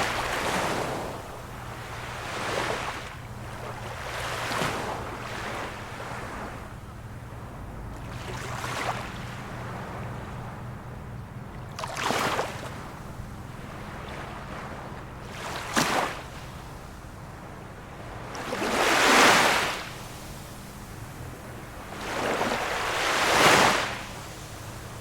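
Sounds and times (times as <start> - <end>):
small waves washing on shore: 0.0 - 25.0.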